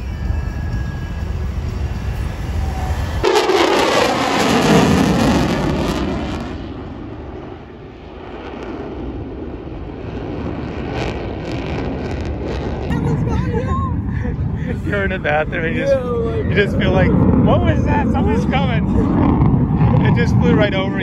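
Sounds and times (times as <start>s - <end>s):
jet aircraft flying past: 0.0s - 21.0s
low rumble: 0.0s - 21.0s.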